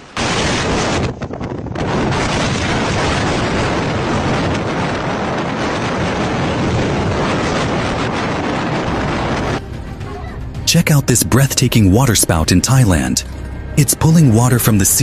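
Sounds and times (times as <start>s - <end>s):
storm wind buffeting microphone: 0.0s - 12.4s.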